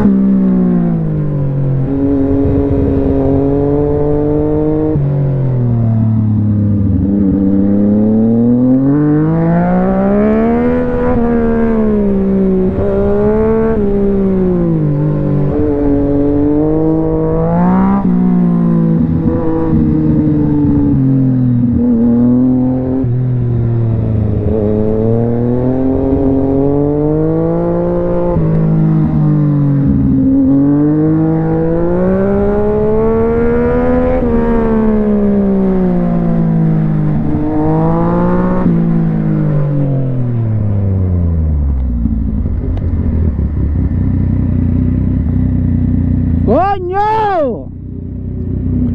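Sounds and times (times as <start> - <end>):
motorcycle engine revving: 0.0 - 46.8, 47.6 - 48.9.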